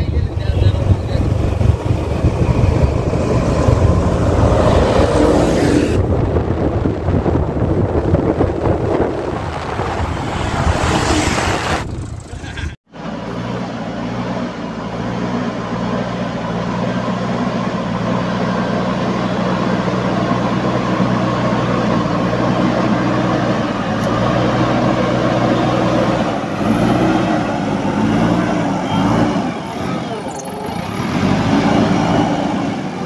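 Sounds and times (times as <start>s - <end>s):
diesel engine running under load: 0.0s - 10.6s, 11.4s - 33.0s.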